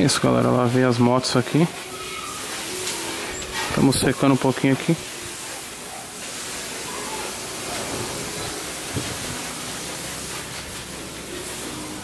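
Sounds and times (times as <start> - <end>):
hiss of running water: 0.0 - 12.0.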